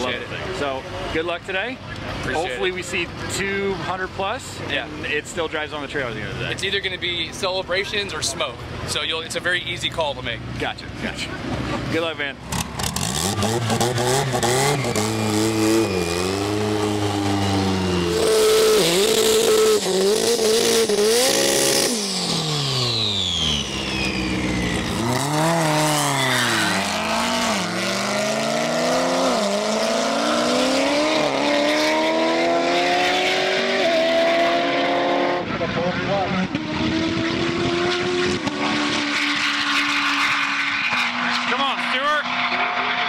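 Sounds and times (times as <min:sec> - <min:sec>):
car engine revving: 0:04.9 - 0:43.0.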